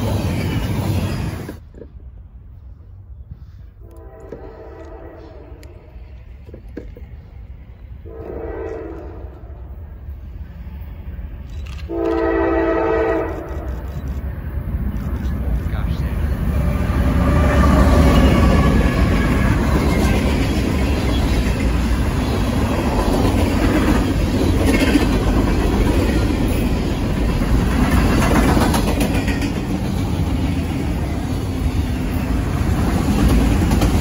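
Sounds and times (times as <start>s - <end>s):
train wheels rolling on rails: 0.0s - 2.9s, 3.9s - 34.0s
diesel locomotives passing: 0.0s - 34.0s.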